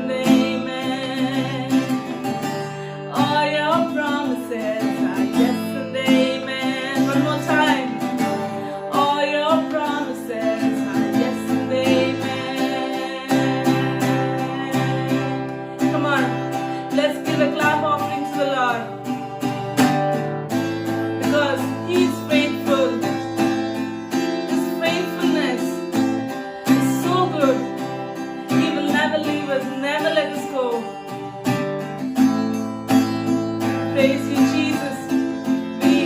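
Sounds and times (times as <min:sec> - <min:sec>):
person singing: 0:00.0 - 0:20.0, 0:20.7 - 0:36.0
acoustic guitar strumming: 0:00.0 - 0:36.0.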